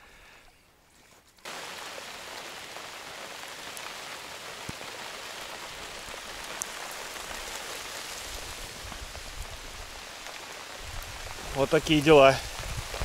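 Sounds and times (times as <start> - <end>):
steady rain hiss: 0.0 - 13.0
raindrop ticks: 2.2 - 13.0.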